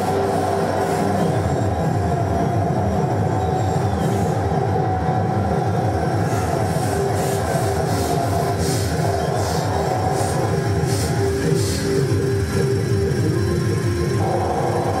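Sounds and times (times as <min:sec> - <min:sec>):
noise music drone: 0:00.0 - 0:15.0.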